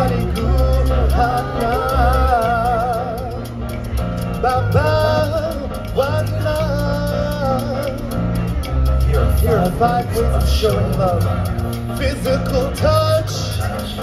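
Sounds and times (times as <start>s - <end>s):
man singing with vibrato: 0.0s - 3.6s, 4.4s - 8.4s, 9.0s - 14.0s
backing track with bass line: 0.0s - 14.0s.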